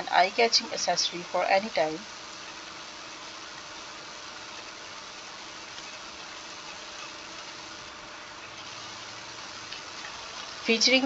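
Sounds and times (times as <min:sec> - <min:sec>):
faint hum: 0:00.0 - 0:11.0
steady background hiss: 0:00.0 - 0:11.0.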